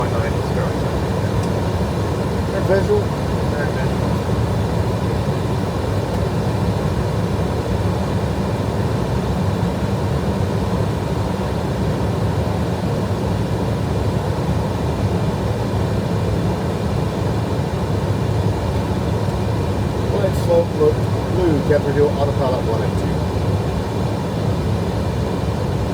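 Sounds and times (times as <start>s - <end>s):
airflow and engine drone: 0.0s - 25.9s.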